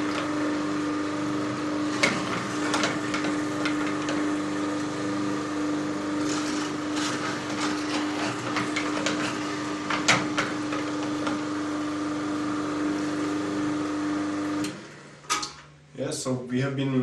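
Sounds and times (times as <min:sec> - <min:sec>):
juicer motor humming: 0:00.0 - 0:15.6.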